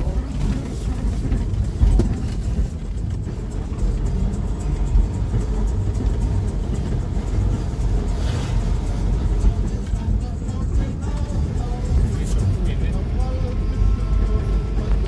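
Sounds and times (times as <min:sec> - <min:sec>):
van driving on rough road: 0:00.0 - 0:15.0.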